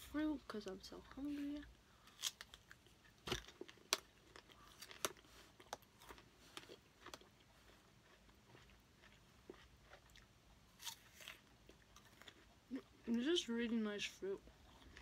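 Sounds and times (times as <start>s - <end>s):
chewing soft fruit: 2.0s - 13.8s, 14.4s - 15.0s.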